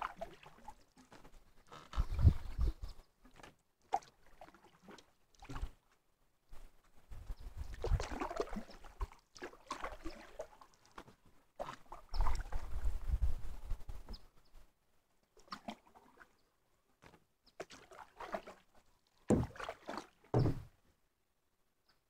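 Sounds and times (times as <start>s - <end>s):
paddle swishing and dripping water: 0.0s - 20.9s.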